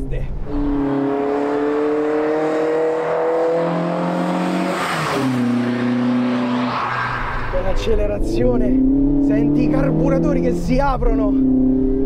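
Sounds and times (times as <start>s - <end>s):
car accelerating past: 0.4s - 10.7s.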